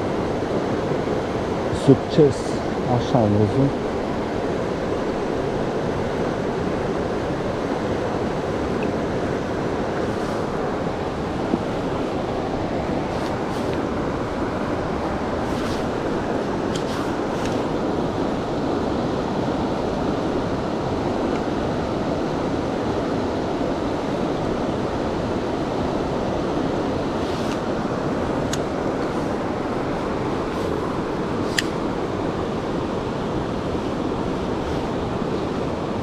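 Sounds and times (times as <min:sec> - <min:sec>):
fast river rushing: 0:00.0 - 0:36.0.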